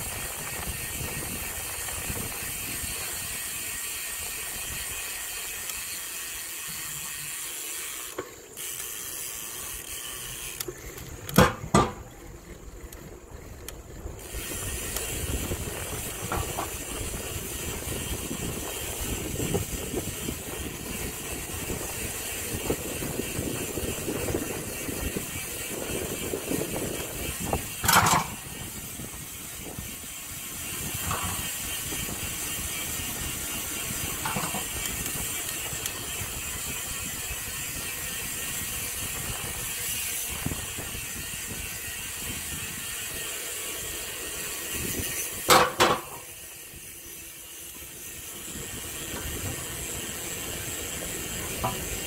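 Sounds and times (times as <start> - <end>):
bicycle parts rattling and clicking: 0.0 - 52.0.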